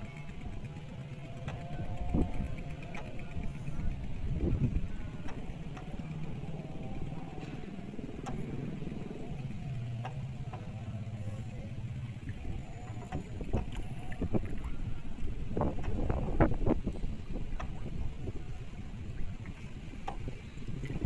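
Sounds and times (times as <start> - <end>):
boat engine droning: 0.0 - 21.0
choppy water: 0.0 - 21.0.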